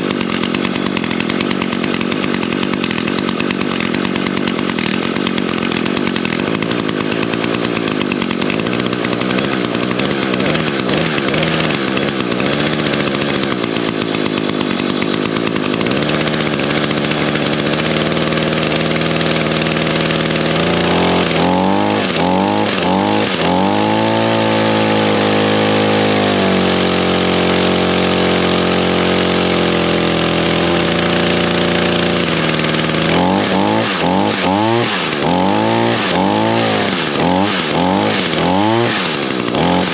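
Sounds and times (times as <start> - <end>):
string trimmer engine revving: 0.0 - 39.9.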